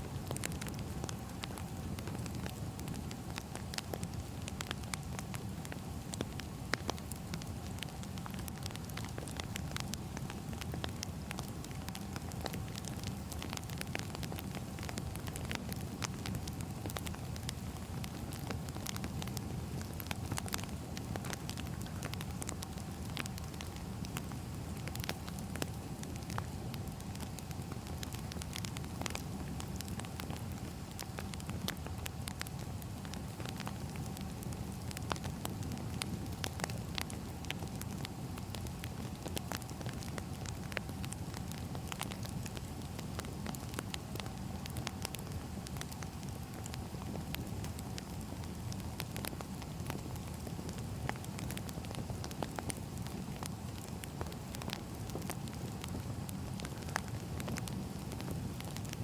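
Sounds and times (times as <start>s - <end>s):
fire rumbling: 0.0s - 59.0s
firewood crackling and popping: 0.0s - 59.0s.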